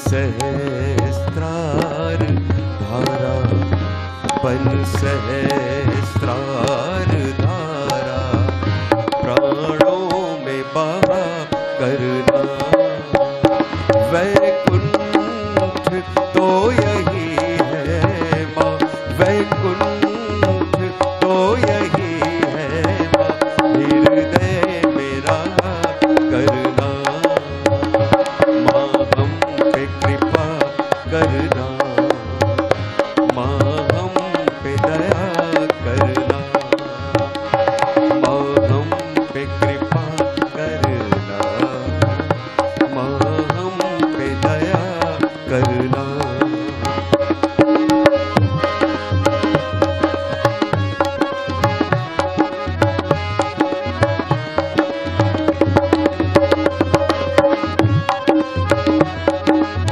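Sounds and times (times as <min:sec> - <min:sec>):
harmonium melody: 0:00.0 - 0:59.9
tabla and dholak rhythm: 0:00.0 - 0:59.9.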